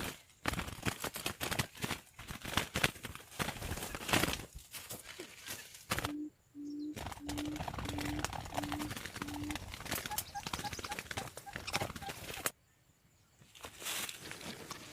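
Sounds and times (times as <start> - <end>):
dry leaves and twigs crackling: 0.0 - 6.2, 7.0 - 12.6, 13.4 - 14.9.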